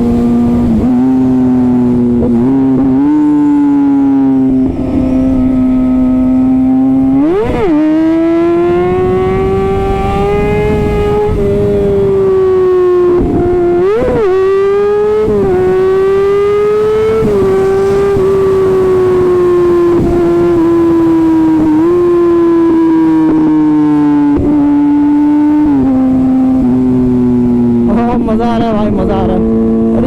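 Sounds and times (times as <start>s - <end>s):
motorcycle engine running hard: 0.0s - 30.0s
motorcycle rev blips: 0.0s - 30.0s.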